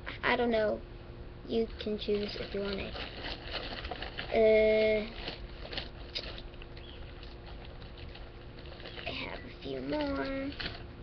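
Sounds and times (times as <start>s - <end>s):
plastic figurines tapping and rustling: 2.0s - 10.9s.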